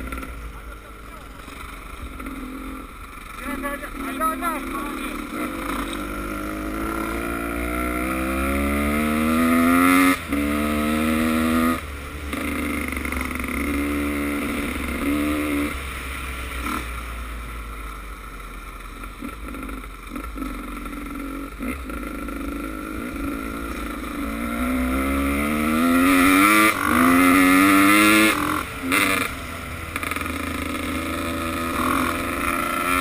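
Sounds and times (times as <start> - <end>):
motocross bike engine accelerating: 0.0 - 15.8, 19.2 - 33.0.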